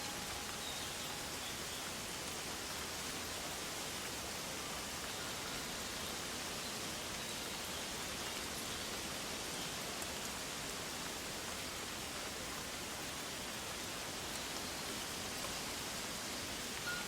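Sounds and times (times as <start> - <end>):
forest ambience hiss: 0.0 - 17.0.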